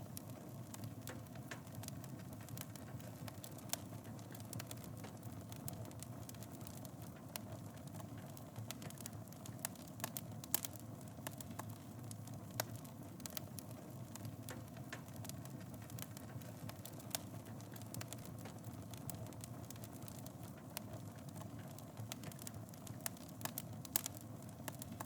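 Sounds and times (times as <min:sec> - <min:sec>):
fire crackling and popping: 0:00.0 - 0:25.0
fire rumbling: 0:00.0 - 0:25.0.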